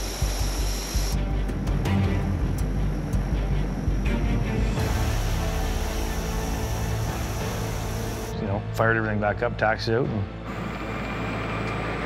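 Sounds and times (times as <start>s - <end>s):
turboprop engines droning: 0.0s - 12.0s
dramatic background music: 0.1s - 12.0s.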